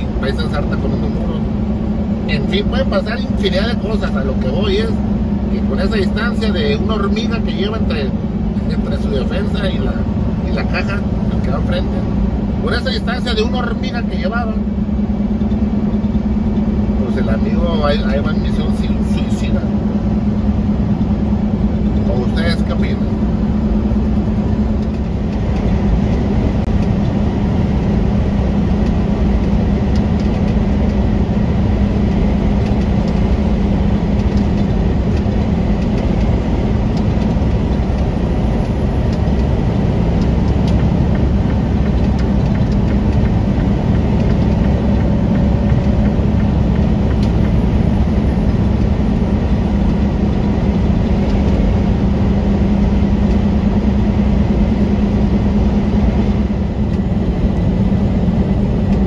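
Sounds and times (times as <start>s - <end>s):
road noise: 0.0s - 59.0s
truck diesel engine drone: 0.0s - 59.0s.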